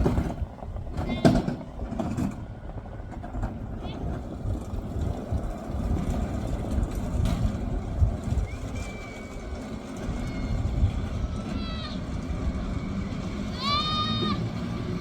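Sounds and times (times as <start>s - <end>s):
rail sled wheels rumbling: 0.0s - 15.0s.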